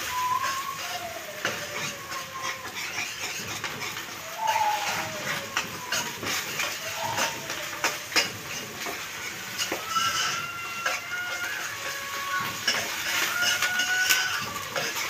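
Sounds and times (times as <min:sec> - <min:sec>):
food sizzling in hot oil: 0:00.0 - 0:15.0
metal spatula scraping a wok: 0:00.0 - 0:15.0.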